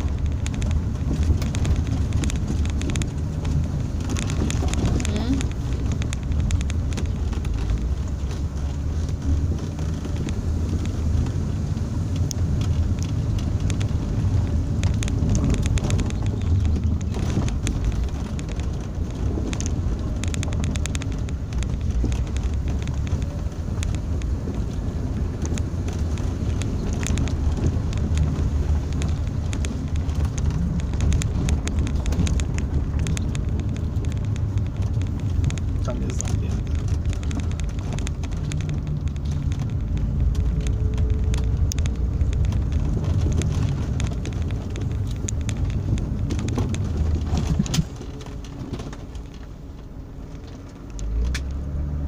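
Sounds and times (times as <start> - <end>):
small knocks and rattles: 0.0 - 51.9
engine and tyres rumbling: 0.0 - 52.0.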